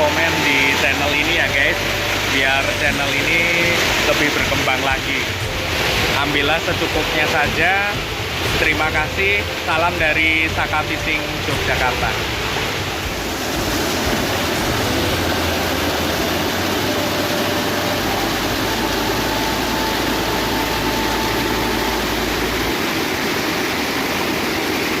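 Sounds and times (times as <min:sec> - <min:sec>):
water rushing through dam: 0:00.0 - 0:25.0.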